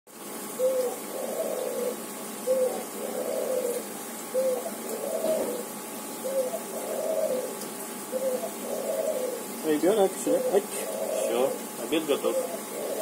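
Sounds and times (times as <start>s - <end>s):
dove cooing: 0.4s - 13.0s.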